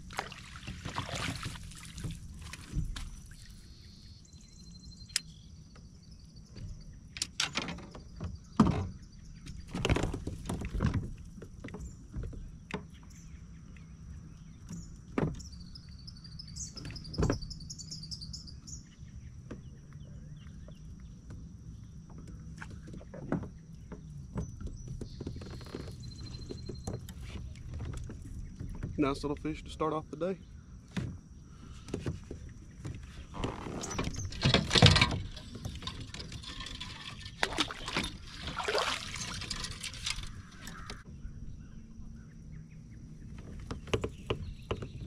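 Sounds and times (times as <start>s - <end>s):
knocks and clatter in kayak: 0.0s - 42.2s, 43.1s - 45.0s
birds chirping: 1.6s - 10.6s, 11.3s - 45.0s.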